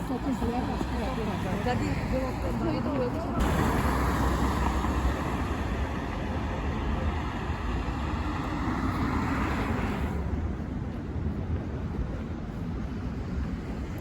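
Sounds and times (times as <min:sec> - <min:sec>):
high street hiss: 0:00.0 - 0:14.0
low rumble of traffic: 0:00.0 - 0:14.0.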